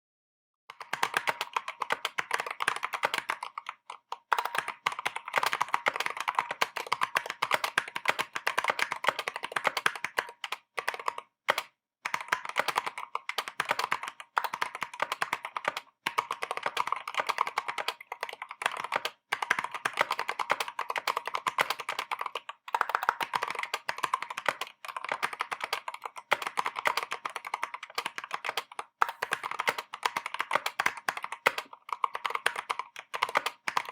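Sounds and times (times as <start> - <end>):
mechanical keyboard typing: 0.7 - 33.9.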